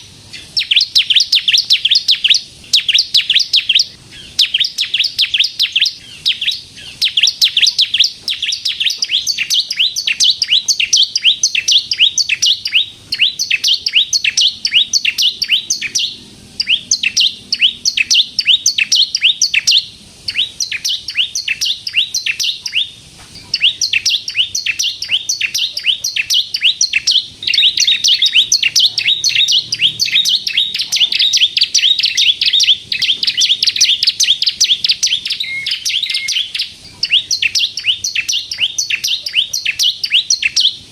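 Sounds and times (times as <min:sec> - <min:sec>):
bird singing rapid chirps: 0:00.0 - 0:40.9.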